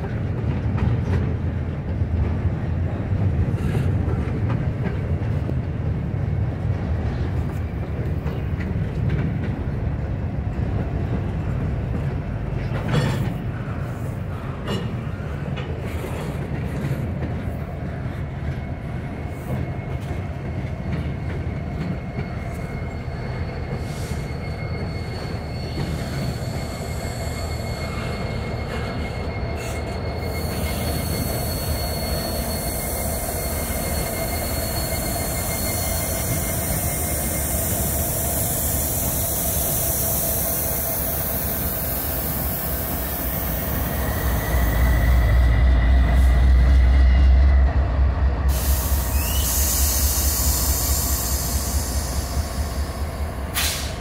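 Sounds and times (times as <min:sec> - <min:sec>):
diesel locomotive engine rumble: 0:00.0 - 0:54.0
rumble of train cars: 0:00.0 - 0:54.0
train wheels squealing: 0:06.9 - 0:54.0.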